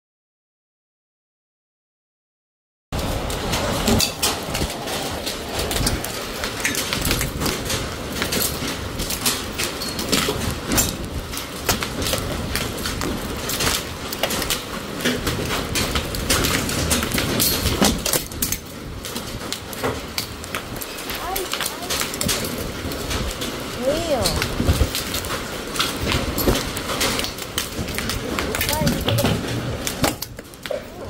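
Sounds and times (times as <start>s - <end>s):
hailstones clattering: 3.0s - 31.0s.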